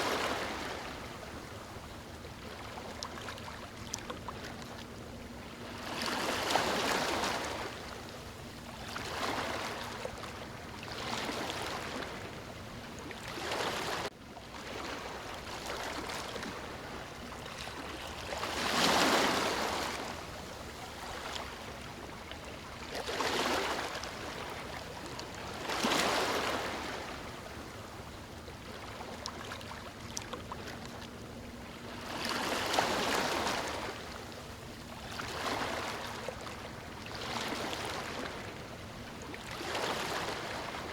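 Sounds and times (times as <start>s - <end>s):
ocean waves breaking on beach: 0.0s - 3.6s, 4.4s - 12.6s, 13.2s - 30.0s, 31.7s - 40.9s.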